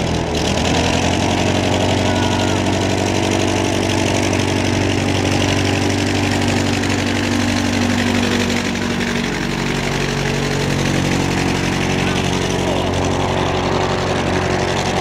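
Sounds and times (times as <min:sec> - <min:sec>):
plane engine and propeller: 0:00.0 - 0:15.0.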